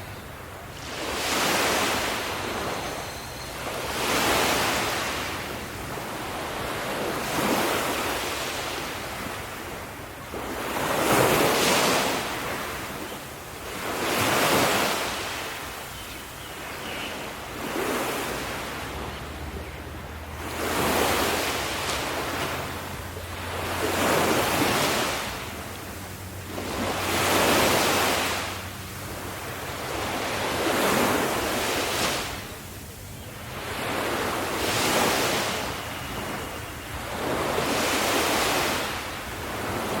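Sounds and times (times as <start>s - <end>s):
ocean waves breaking on shore: 0.0s - 40.0s.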